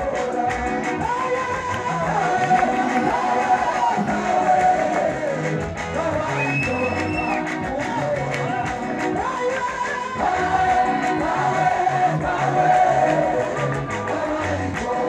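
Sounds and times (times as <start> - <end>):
women's choir singing gospel: 0.0 - 7.8, 9.1 - 15.0
band with bass line: 0.0 - 15.0
hand clapping: 0.0 - 15.0.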